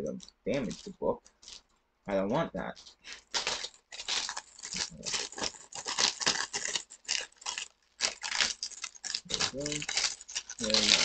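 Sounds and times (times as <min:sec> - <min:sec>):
plastic wrapping crinkling and tearing: 0:00.6 - 0:01.7, 0:02.7 - 0:11.0.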